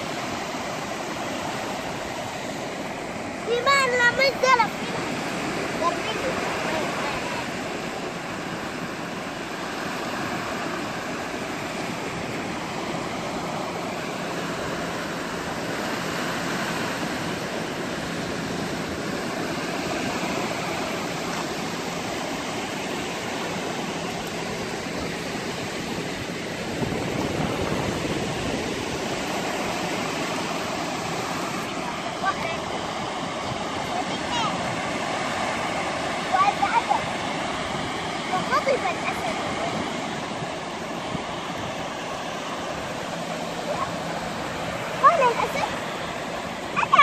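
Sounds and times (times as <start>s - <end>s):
sea surf breaking: 0.0s - 47.0s.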